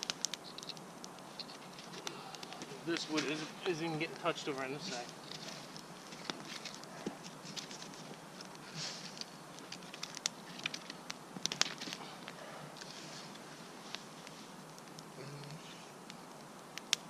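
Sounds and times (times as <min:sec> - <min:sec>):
soft rustling: 0:00.0 - 0:15.8
twigs clicking and snapping: 0:00.0 - 0:17.0.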